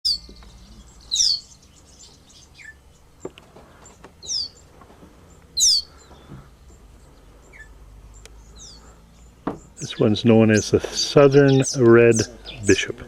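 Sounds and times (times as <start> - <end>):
high whistled bird calls: 0.1 - 2.8, 4.2 - 4.7, 5.6 - 12.9
faint bird chirps: 0.1 - 12.9.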